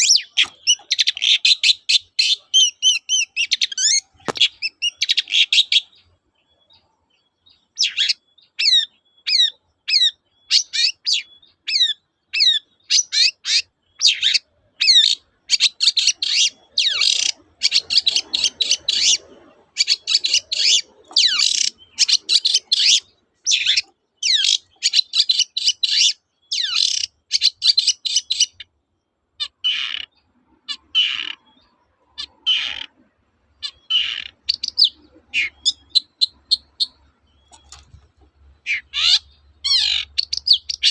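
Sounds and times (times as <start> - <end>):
harsh bird calls: 0.0 - 40.9.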